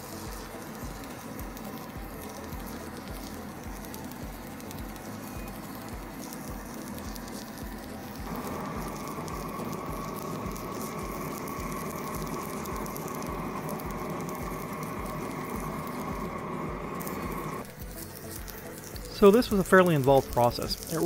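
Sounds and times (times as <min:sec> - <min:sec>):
welding arc crackling: 0:00.0 - 0:21.0.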